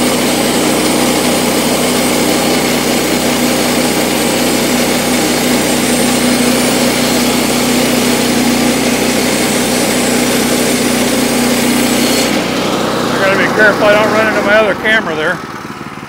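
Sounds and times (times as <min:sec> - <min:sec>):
saw blade hissing through wood: 0:00.0 - 0:13.2
gas engine running under load: 0:00.0 - 0:16.0.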